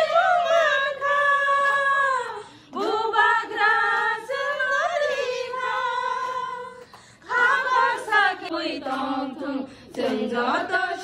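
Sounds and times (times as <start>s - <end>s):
women singing without accompaniment: 0.0s - 11.0s.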